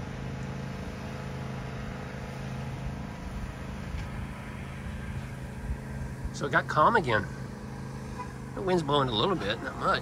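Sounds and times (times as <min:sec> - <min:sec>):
riding lawn mower engine: 0:00.0 - 0:10.0.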